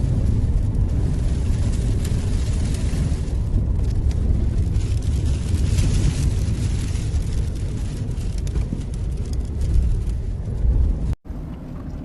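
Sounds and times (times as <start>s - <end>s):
sandstorm wind blowing hard: 0.0s - 11.2s.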